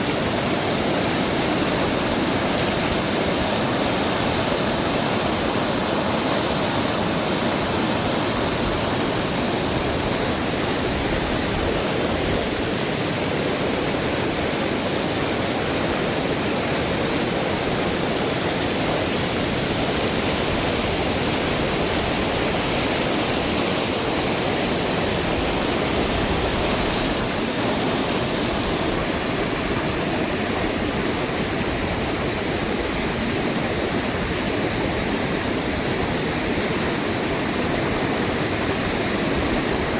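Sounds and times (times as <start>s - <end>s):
fast-flowing river water: 0.0s - 39.9s.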